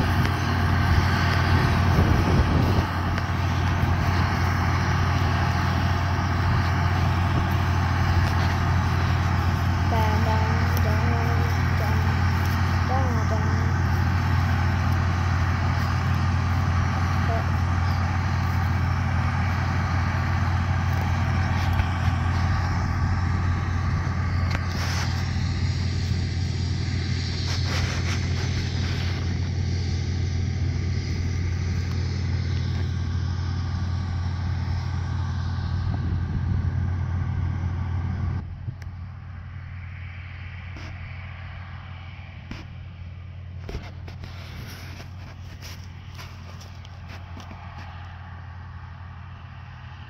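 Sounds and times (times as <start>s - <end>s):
combine engine drone: 0.0s - 50.0s
threshing machinery noise: 0.0s - 50.0s.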